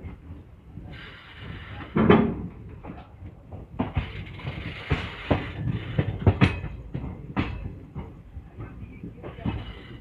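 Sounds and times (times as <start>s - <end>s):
wheels clattering on rails: 0.0s - 10.0s
train coach rushing noise: 0.8s - 10.0s.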